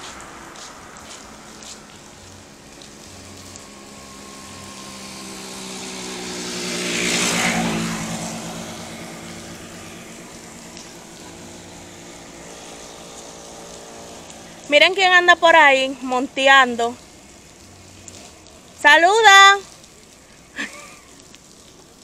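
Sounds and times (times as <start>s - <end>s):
vehicle passing on wet road: 0.0s - 22.0s.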